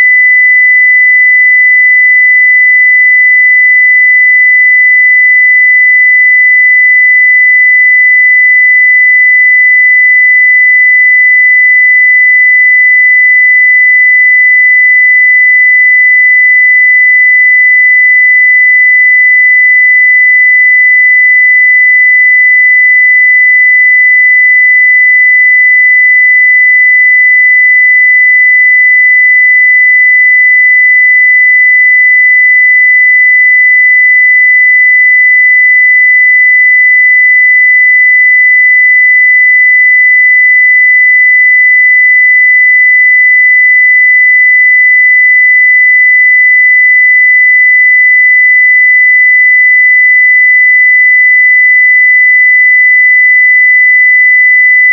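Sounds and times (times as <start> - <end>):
sine wave test tone: 0.0 - 54.9.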